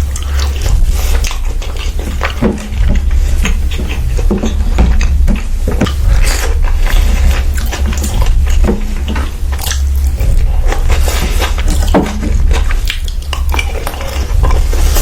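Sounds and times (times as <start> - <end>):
chewing and biting food: 0.0 - 15.0
mouth clicks and smacks: 0.0 - 15.0
steady low hum: 0.0 - 15.0.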